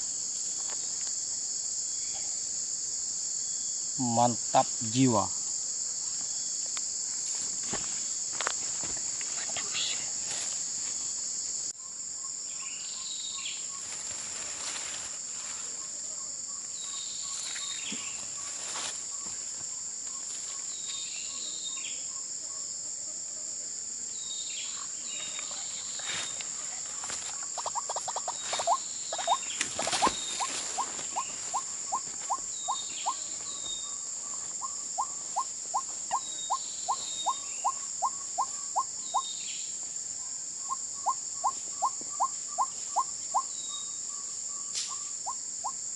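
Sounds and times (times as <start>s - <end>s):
crickets and insects chirping: 0.0s - 45.9s.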